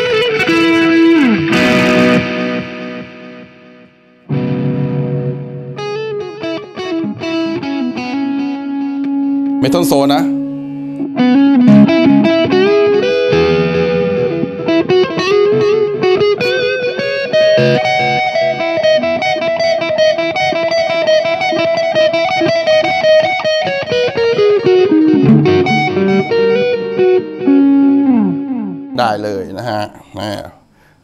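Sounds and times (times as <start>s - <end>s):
distorted electric guitar lead: 0.0s - 29.6s.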